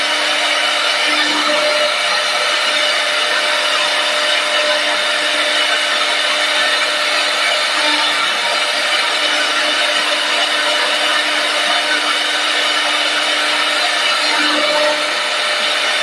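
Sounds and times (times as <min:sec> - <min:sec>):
lathe tool shaving wood: 0:00.0 - 0:16.0.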